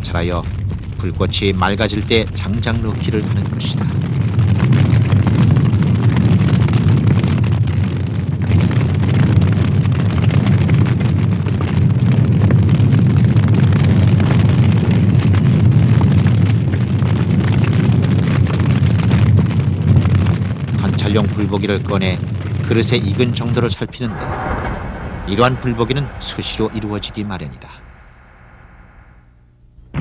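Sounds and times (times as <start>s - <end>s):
firewood crackling: 0.0s - 29.4s
low roar of flames: 0.0s - 29.4s.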